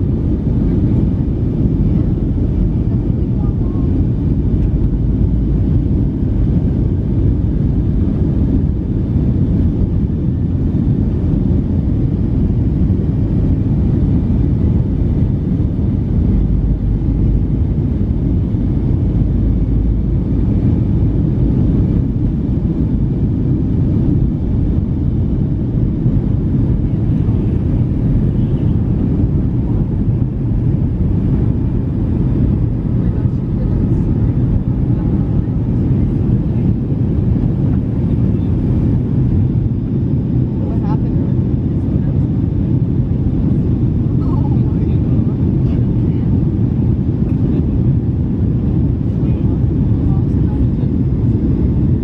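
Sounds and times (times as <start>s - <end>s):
jet engines rumbling at takeoff: 0.0s - 52.0s.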